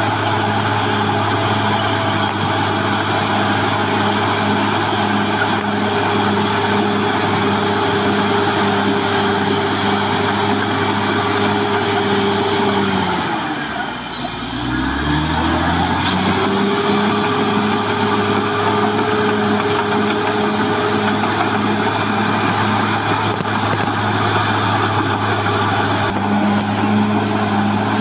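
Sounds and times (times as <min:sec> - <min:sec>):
bulldozer diesel engine under load: 0:00.0 - 0:28.0.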